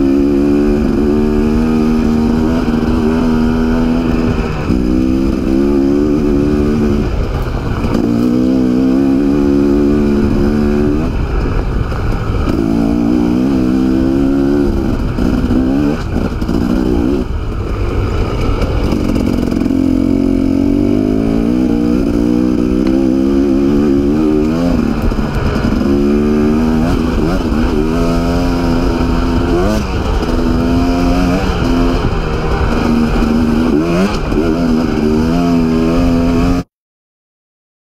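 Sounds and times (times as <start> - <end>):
dirt bike engine revving: 0.0 - 36.7.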